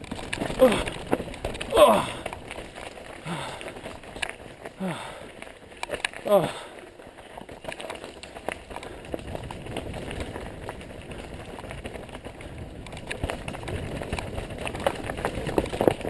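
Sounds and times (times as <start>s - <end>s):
bike rattling and knocking: 0.0s - 16.0s
bike tyres rolling on dirt: 0.0s - 16.0s.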